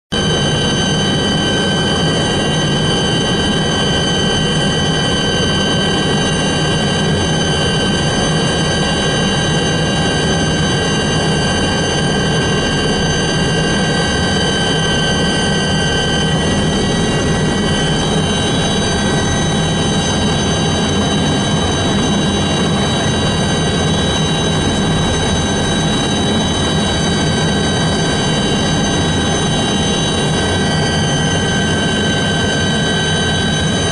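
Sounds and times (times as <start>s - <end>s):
helicopter turbine engines roaring: 0.1s - 33.9s
high turbine whines: 0.1s - 33.9s.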